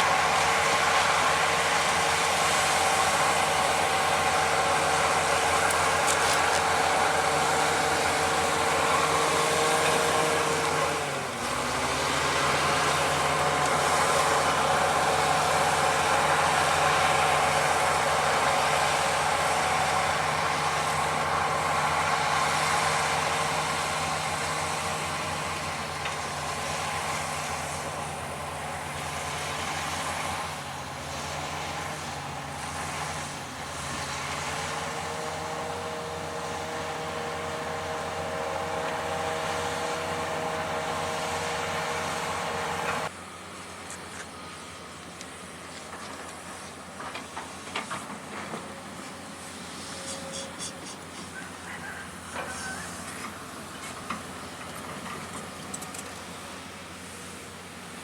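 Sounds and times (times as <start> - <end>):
diesel engine running hard: 0.0 - 58.0.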